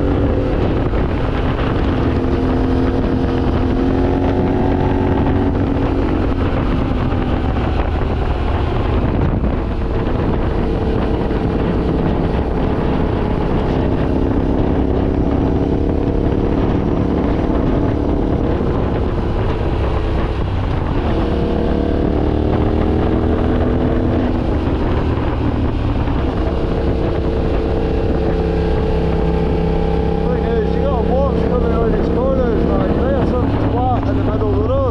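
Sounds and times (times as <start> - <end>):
motorcycle engine accelerating: 0.0 - 34.9
wind rushing over microphone: 0.0 - 34.9.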